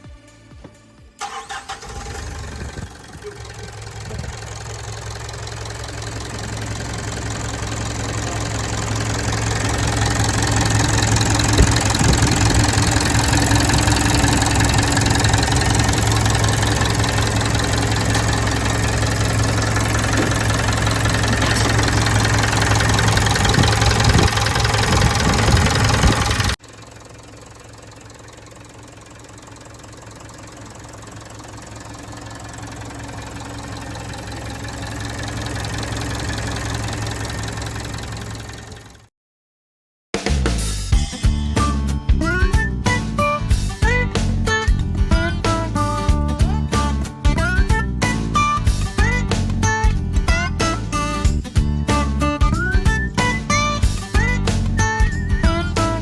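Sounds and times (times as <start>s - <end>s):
diesel engine starting and running: 0.0s - 39.1s, 41.3s - 56.0s.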